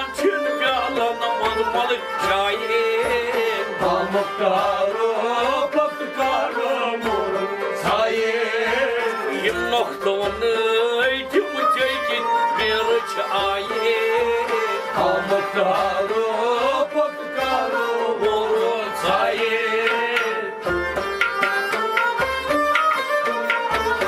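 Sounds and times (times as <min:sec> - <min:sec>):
man singing: 0:00.0 - 0:20.6
bowed string melody: 0:00.0 - 0:24.0
hand drum rhythm: 0:00.0 - 0:24.0.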